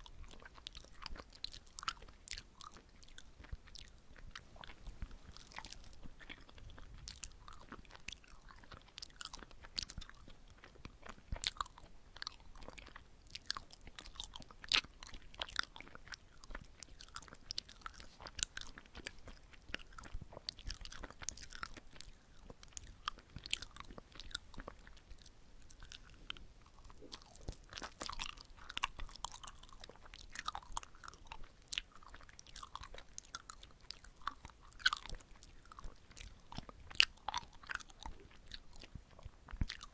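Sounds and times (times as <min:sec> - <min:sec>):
close chewing with wet smacks: 0:00.0 - 0:39.9.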